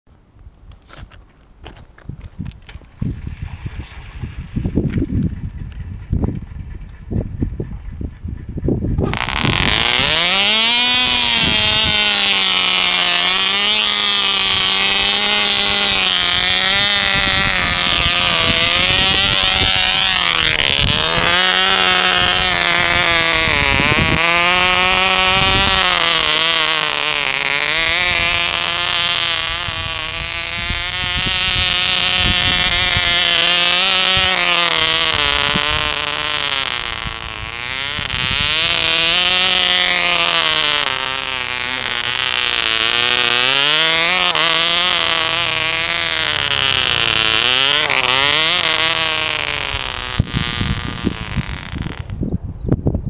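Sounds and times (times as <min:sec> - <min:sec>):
model car engine high-pitched buzz: 0:09.0 - 0:52.3.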